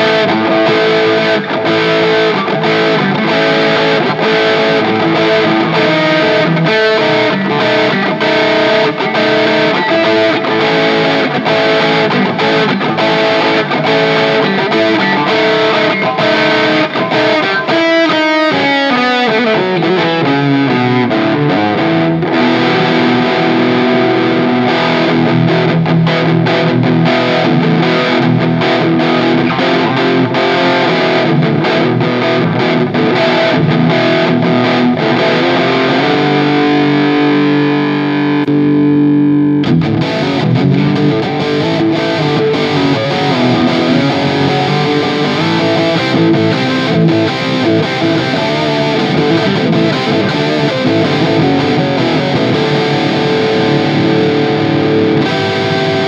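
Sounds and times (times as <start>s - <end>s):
distorted electric guitar solo: 0.0s - 56.0s.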